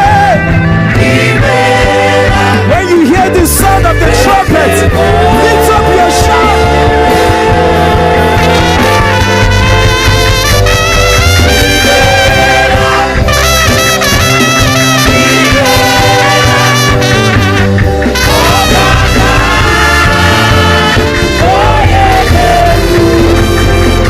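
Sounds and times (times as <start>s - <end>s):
gospel band brass horns: 0.0s - 24.0s.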